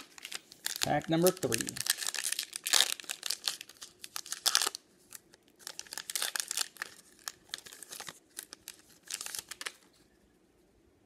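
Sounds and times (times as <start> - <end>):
card pack wrapper tearing and crinkling: 0.0 - 9.9.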